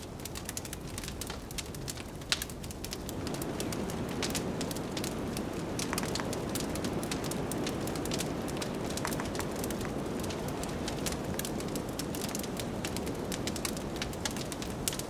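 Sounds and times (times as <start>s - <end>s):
wood fire crackling: 0.0s - 15.0s
blizzard wind rushing: 2.9s - 15.0s.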